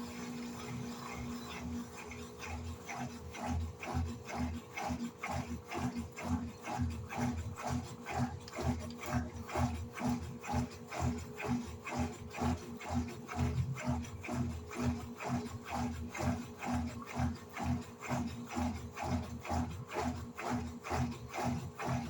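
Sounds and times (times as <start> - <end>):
washing machine churning water: 0.0 - 22.0
washing machine motor hum: 0.0 - 22.0.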